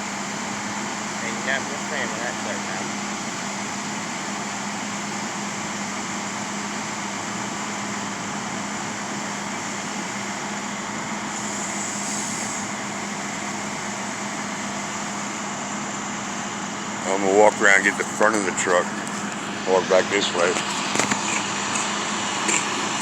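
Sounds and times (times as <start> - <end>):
engines droning: 0.0 - 23.0.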